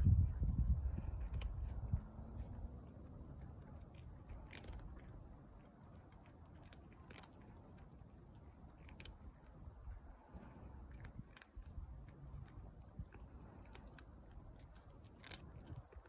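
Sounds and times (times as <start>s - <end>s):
cat chewing dry kibble: 0.0s - 16.0s.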